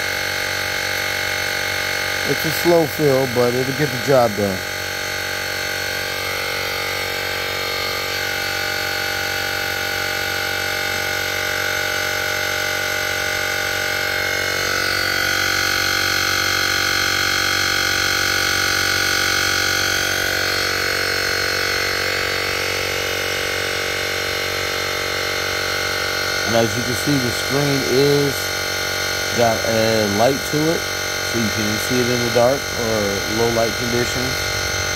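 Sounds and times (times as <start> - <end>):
air compressor droning: 0.0 - 34.9.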